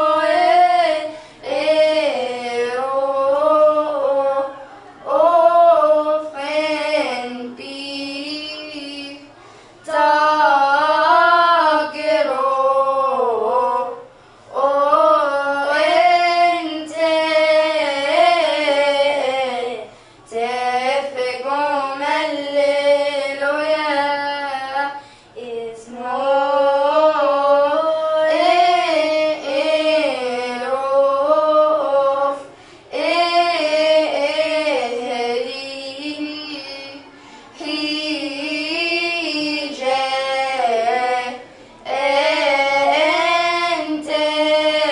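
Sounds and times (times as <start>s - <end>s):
girls singing: 0.0s - 44.9s.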